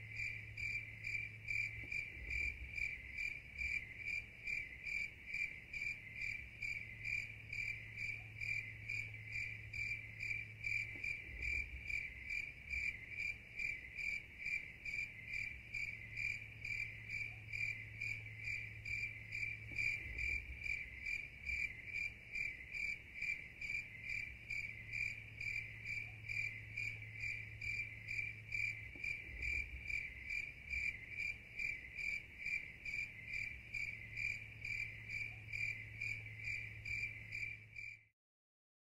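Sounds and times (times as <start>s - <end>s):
cricket chirping: 0.0s - 38.1s.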